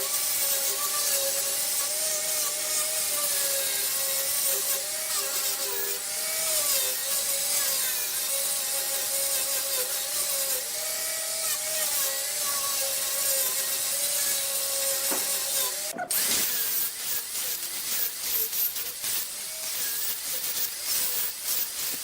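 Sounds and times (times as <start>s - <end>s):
wood lathe whine: 0.0s - 18.6s
tool cutting wood hiss: 0.0s - 22.0s.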